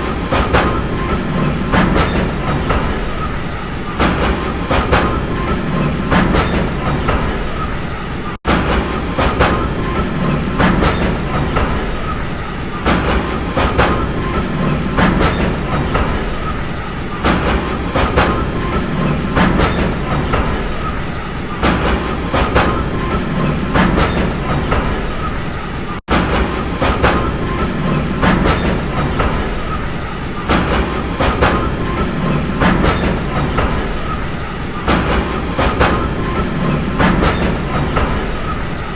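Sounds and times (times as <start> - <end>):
train rumbling on rails: 0.0 - 38.9
wheels clacking over rail joints: 0.0 - 38.9.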